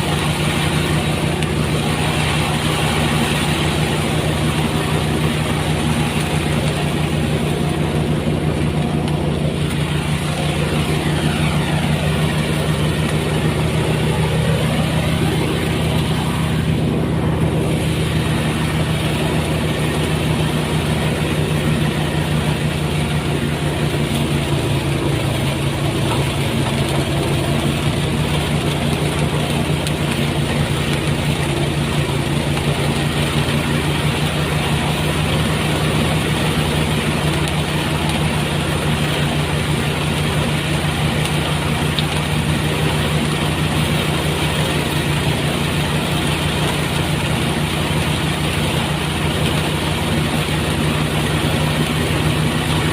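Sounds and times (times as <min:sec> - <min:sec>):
thresher engine droning: 0:00.0 - 0:52.9.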